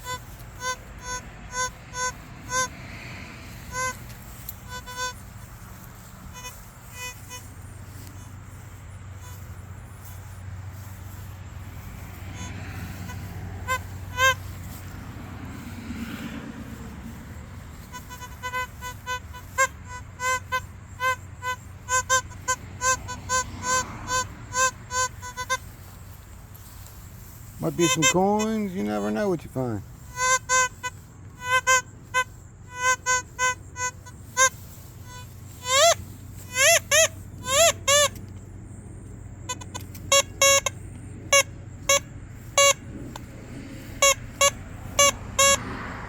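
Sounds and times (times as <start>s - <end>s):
steady low rumble: 0.0s - 27.7s, 29.8s - 46.0s
metal detector beeps: 0.0s - 38.4s, 39.4s - 45.8s.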